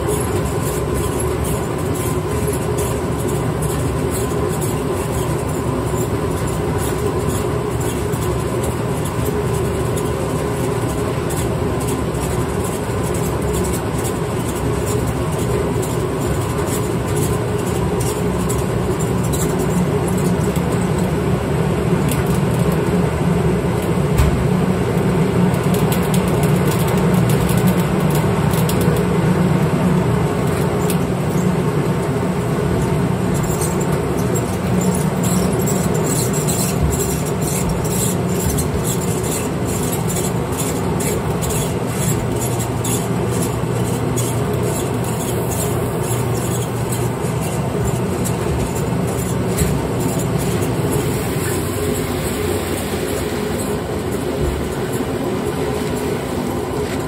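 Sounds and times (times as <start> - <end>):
grain mill rattling rumble: 0.0 - 57.0.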